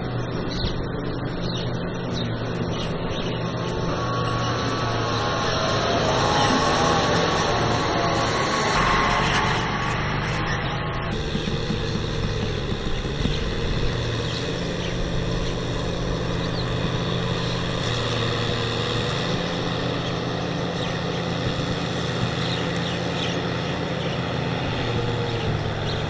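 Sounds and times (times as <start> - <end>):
tractor diesel engine under load: 2.4 - 26.0
tiller churning wet soil: 3.5 - 26.0.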